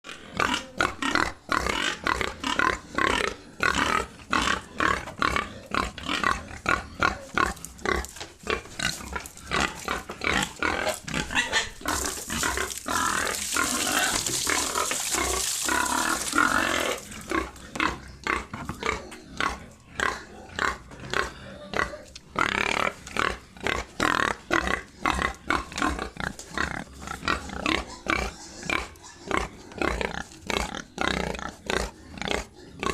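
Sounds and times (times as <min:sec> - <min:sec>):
pigs grunting: 0:00.0 - 0:32.9.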